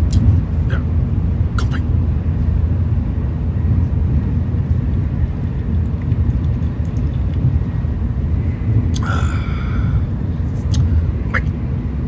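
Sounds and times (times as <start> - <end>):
train running low rumble: 0.0 - 12.0.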